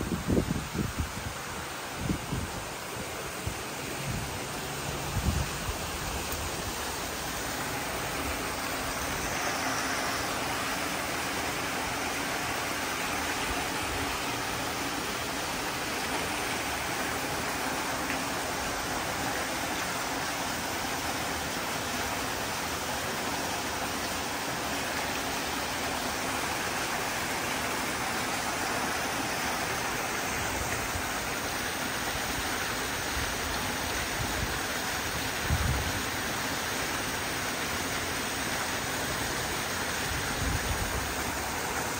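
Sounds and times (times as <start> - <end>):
water splashing into pool: 3.1 - 41.9.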